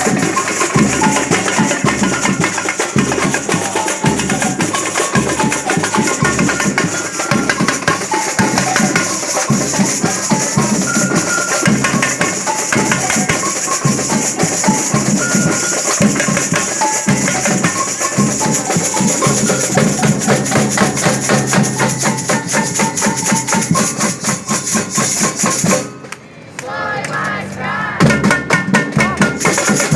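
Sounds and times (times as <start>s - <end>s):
drums and shakers: 0.0s - 26.3s, 28.0s - 29.9s.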